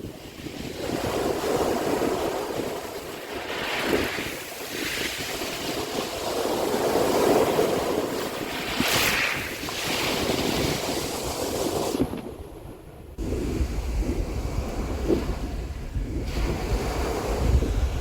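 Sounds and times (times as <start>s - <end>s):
sea waves washing ashore: 0.0s - 18.0s
wind rumbling on microphone: 0.0s - 18.0s.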